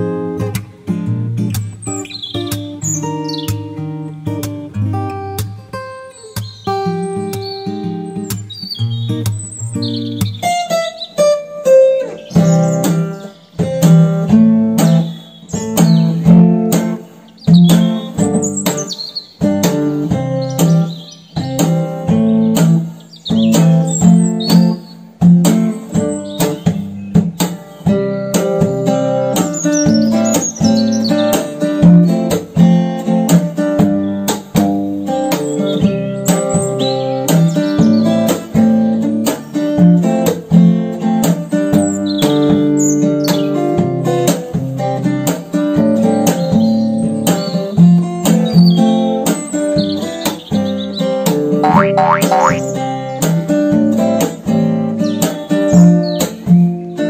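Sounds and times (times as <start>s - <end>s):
acoustic guitar music: 0.0s - 57.0s.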